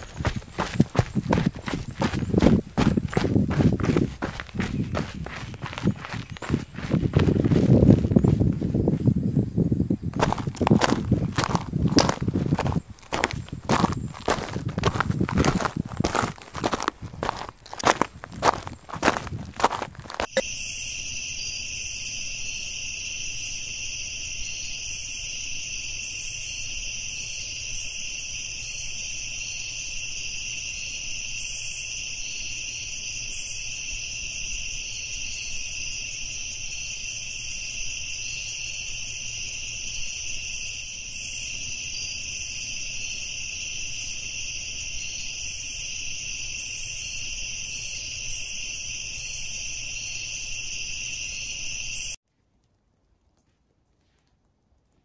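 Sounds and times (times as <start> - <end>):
insects chirring: 0.0 - 52.2.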